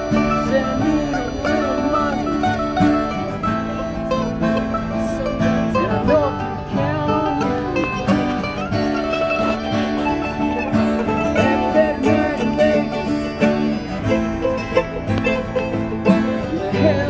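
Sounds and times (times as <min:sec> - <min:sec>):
acoustic string band playing: 0:00.0 - 0:17.0.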